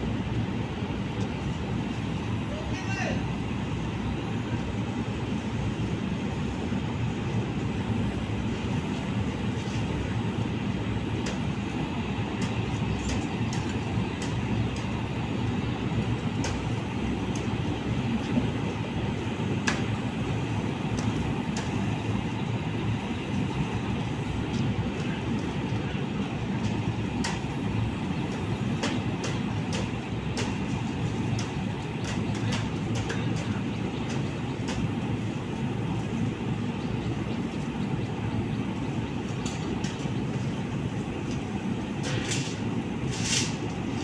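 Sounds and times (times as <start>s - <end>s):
train rumbling: 0.0s - 44.0s.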